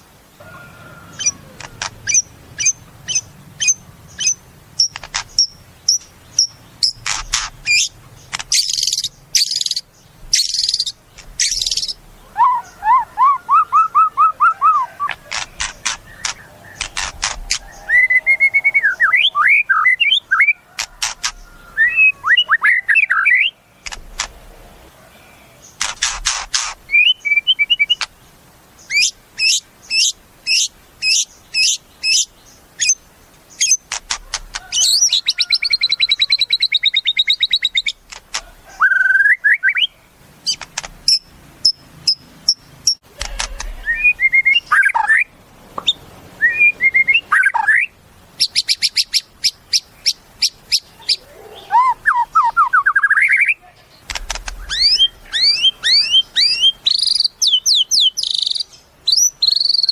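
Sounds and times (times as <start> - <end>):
songbird singing varied song: 0.0 - 59.9.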